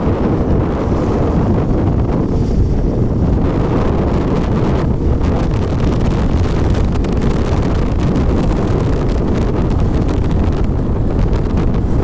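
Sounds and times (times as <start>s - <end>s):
motorcycle rumble: 0.0s - 12.0s
wind buffeting microphone: 0.0s - 12.0s.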